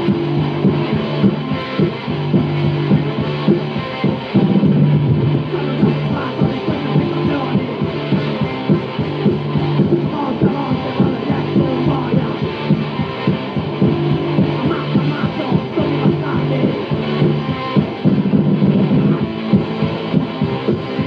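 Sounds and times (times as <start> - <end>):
punk rock band playing: 0.0 - 21.0.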